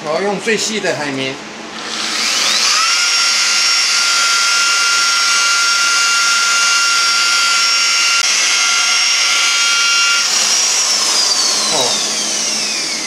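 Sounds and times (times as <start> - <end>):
electric polisher whining: 1.7 - 13.0.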